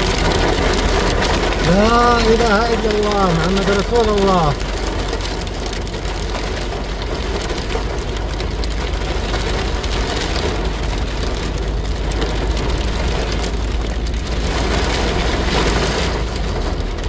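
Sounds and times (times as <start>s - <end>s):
car engine: 0.0s - 17.0s
rain falling on a car: 0.0s - 17.0s
road noise: 0.0s - 17.0s.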